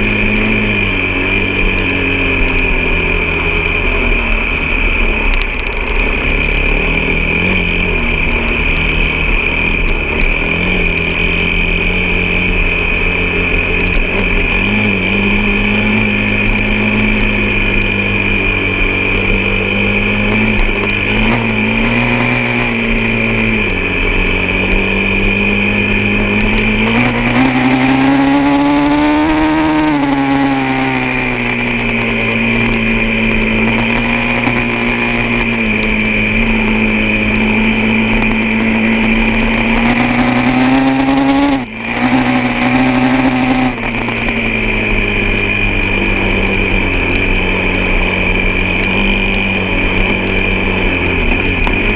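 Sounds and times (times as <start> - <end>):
high whine: 0.0 - 51.9
vehicle engine running: 0.0 - 51.9.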